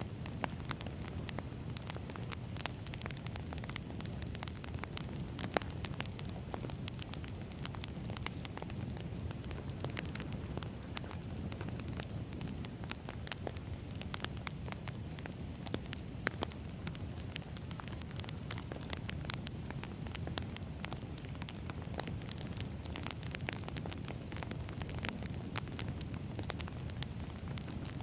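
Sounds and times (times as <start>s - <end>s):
firewood crackling and popping: 0.0s - 28.0s
flames rumbling: 0.0s - 28.0s.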